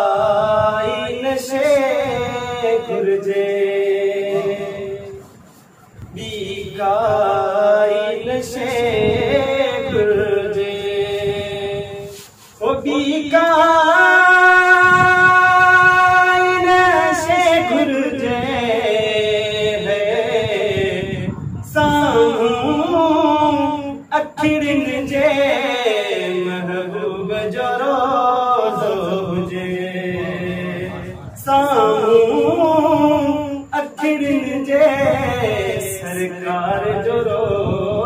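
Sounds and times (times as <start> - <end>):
man singing: 0.0 - 5.2, 6.1 - 38.0.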